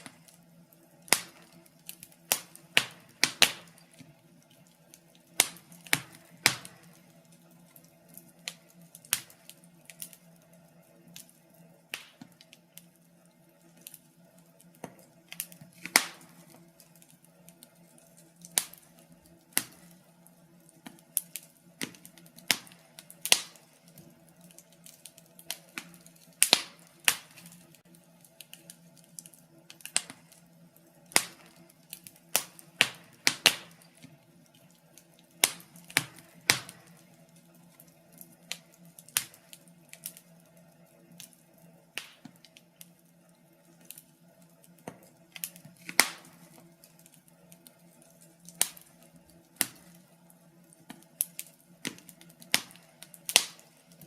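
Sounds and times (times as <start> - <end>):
faint steady hum: 0.0 - 54.0
sharp snaps and pops: 0.0 - 54.0
wood fire crackling: 0.0 - 54.0.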